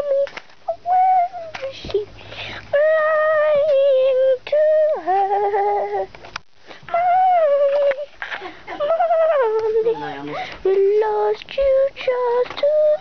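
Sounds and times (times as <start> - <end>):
girl singing wordlessly: 0.0 - 6.2, 6.8 - 13.0.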